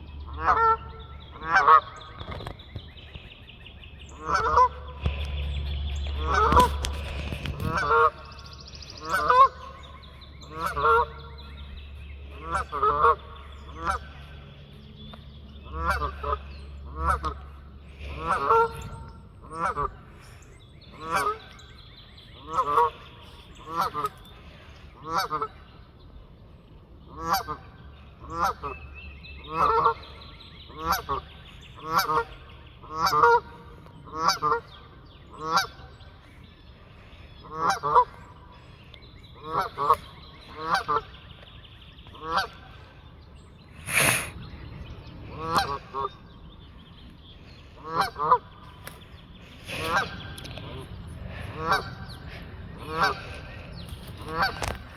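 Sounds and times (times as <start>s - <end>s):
geese honking: 0.3s - 2.5s, 4.0s - 14.9s, 15.6s - 25.8s, 27.1s - 41.4s, 42.1s - 43.0s, 43.8s - 46.4s, 47.7s - 54.9s.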